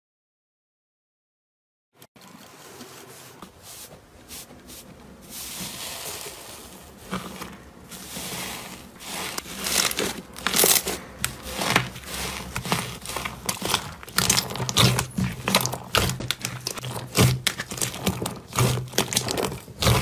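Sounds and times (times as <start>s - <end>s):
slime crackling and squishing: 3.7s - 20.0s.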